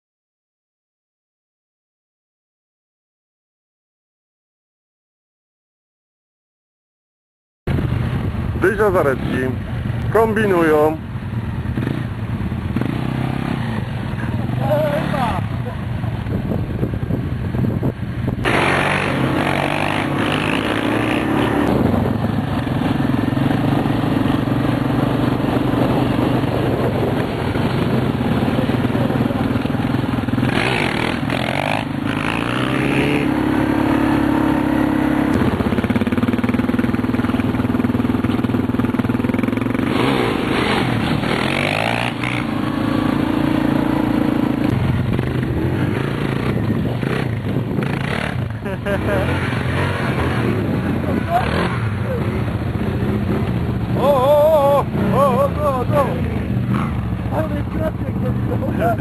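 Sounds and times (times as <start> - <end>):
quad bike engines revving: 7.7 - 59.0.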